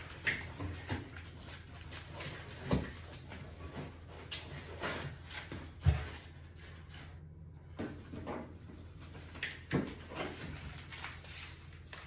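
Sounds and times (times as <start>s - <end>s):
plastic wrapping and foam rustling: 0.0s - 12.0s.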